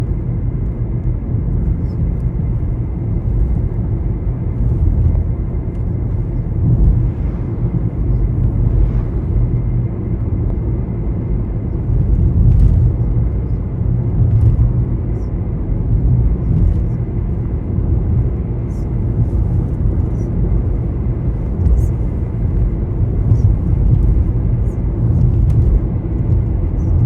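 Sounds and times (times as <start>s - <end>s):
wind buffeting microphone: 0.8s - 27.0s.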